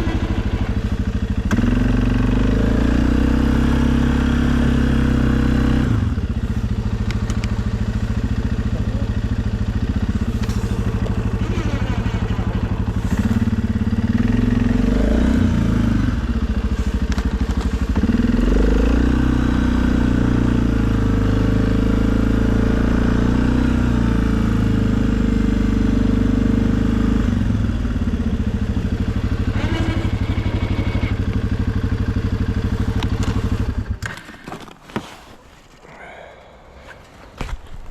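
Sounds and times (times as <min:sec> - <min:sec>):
quad bike engine running: 0:00.0 - 0:34.6.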